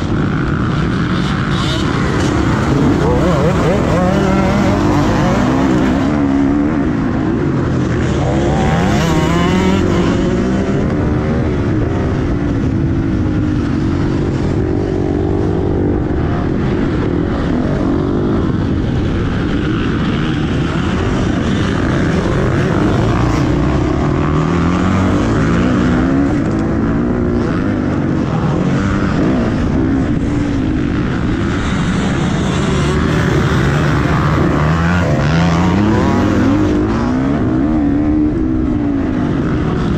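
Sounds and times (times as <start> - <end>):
motocross bike engine revving: 0.0 - 16.1, 19.3 - 39.9.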